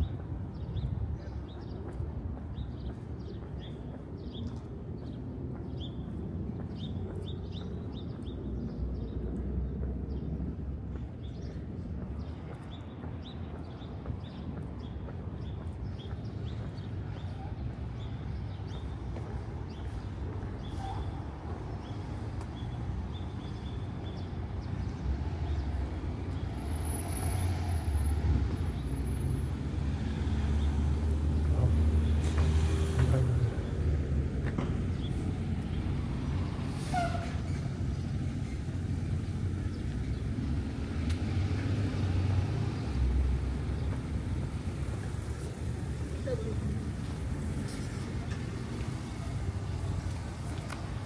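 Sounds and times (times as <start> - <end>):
street traffic rumble: 0.0 - 51.0.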